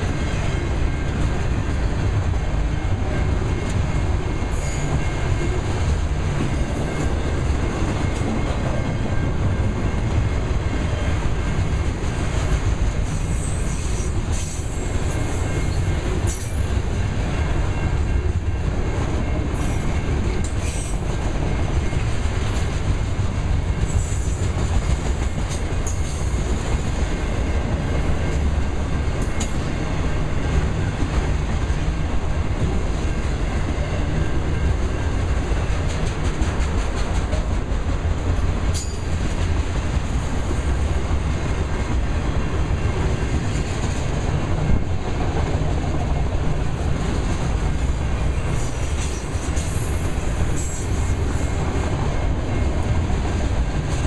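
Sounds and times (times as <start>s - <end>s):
freight train wheels rumbling: 0.0s - 54.0s
rail clatter: 0.0s - 54.0s.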